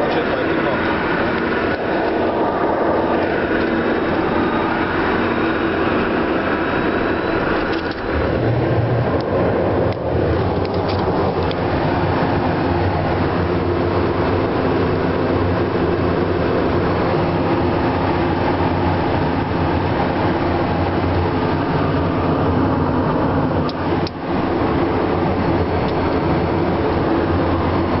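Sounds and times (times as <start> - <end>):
jet taking off: 0.0 - 28.0
low hum: 0.0 - 28.0.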